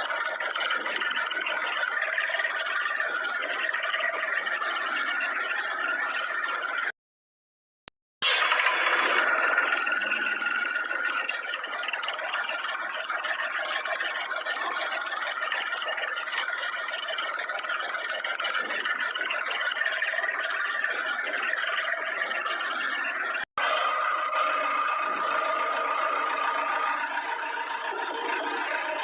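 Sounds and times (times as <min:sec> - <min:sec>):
tractor engine running: 0:00.0 - 0:06.9, 0:08.2 - 0:29.0.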